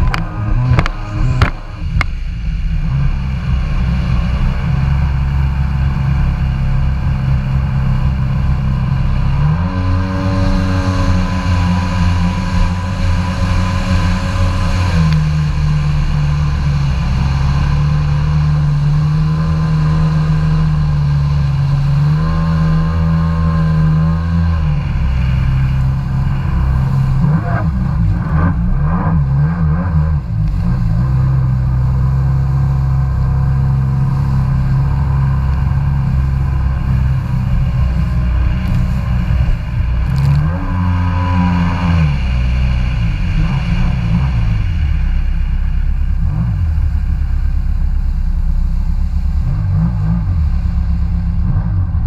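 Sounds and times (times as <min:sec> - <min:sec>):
jet ski engine running: 0:00.0 - 0:52.0.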